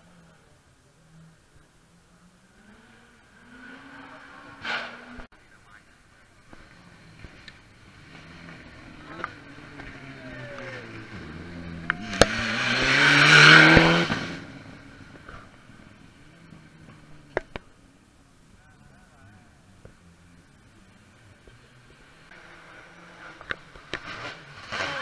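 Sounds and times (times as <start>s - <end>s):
rally car engine passing: 0.0s - 25.0s.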